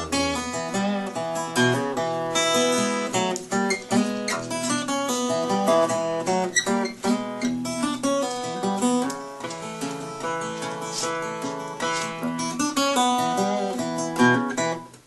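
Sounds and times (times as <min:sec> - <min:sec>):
fingerpicked acoustic guitar: 0:00.0 - 0:15.0.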